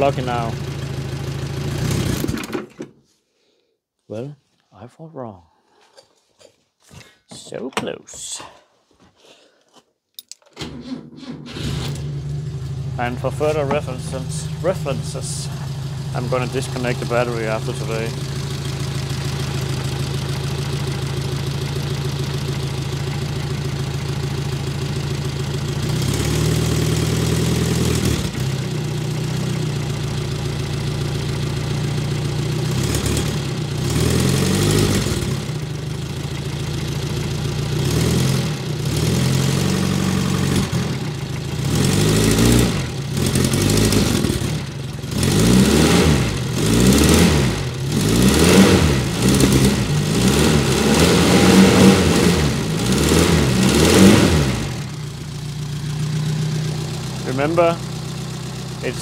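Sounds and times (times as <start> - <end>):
car engine idling and revving: 0.0 - 2.4, 11.4 - 59.0.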